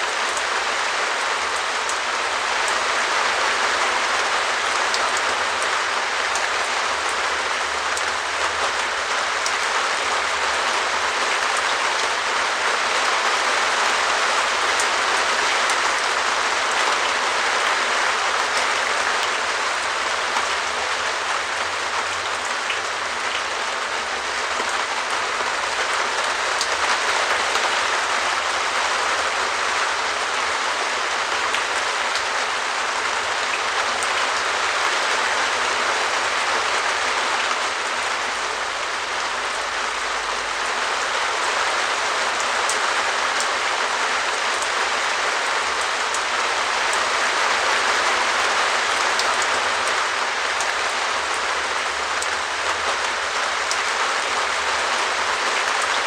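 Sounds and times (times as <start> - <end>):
rain pattering on plastic roof: 0.0 - 56.0.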